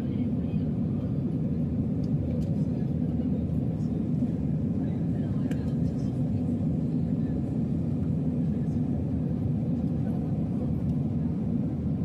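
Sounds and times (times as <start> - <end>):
jet engines and airflow rumble: 0.0 - 12.0.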